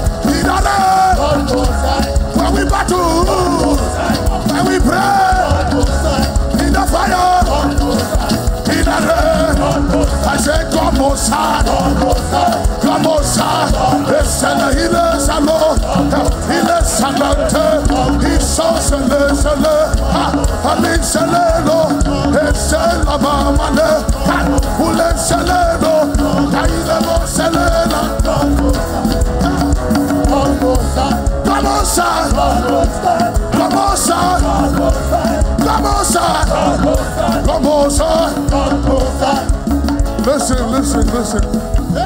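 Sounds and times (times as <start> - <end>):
live worship music: 0.0 - 42.0
voices singing: 0.0 - 42.0.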